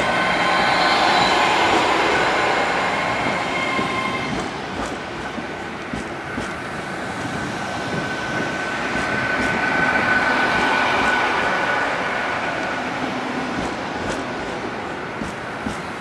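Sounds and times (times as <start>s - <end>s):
high train whine: 0.0s - 16.0s
train wheels rumbling on rails: 0.0s - 16.0s.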